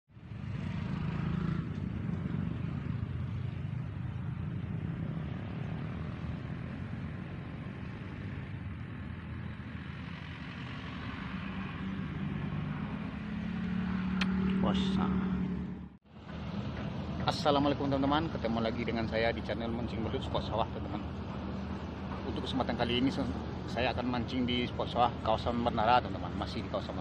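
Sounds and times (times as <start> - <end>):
road and wind noise: 0.1 - 27.0
vehicle engine droning: 0.1 - 27.0.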